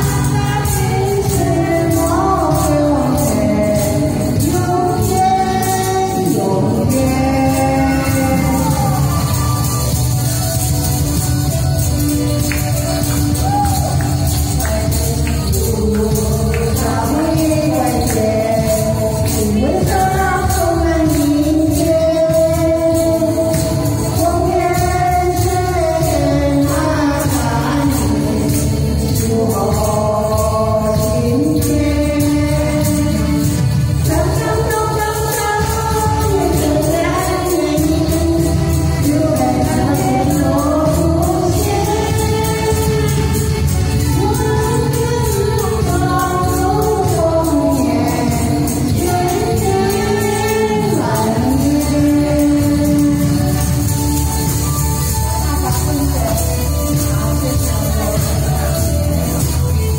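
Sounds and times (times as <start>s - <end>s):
woman singing into microphone: 0.0s - 10.6s, 11.2s - 59.9s
backing track: 0.0s - 59.9s
tambourine shaken: 0.0s - 59.9s.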